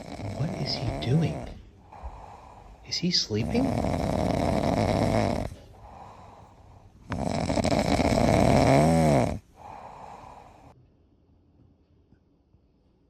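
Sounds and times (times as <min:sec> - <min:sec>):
dog snoring: 0:00.0 - 0:10.7.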